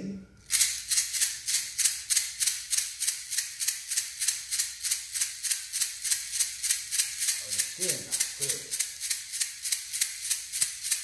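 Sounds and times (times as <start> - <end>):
handheld rattle shaken: 0.4 - 11.0.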